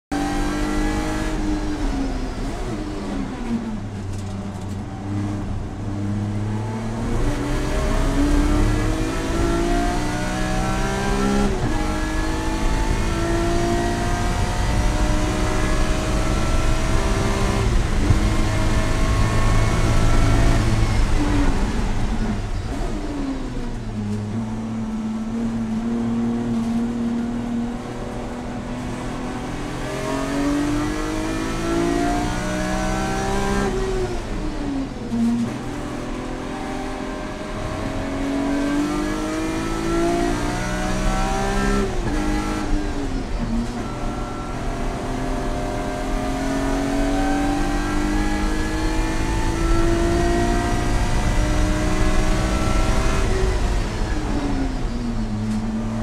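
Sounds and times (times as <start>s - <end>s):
car engine revving: 0.1s - 56.0s.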